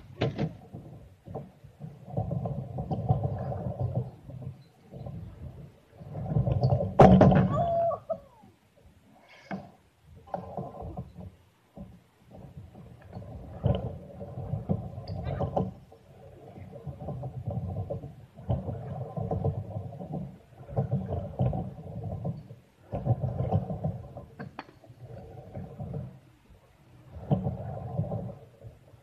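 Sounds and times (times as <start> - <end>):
scooter wheels rolling on concrete: 0.0 - 8.4, 9.4 - 29.0.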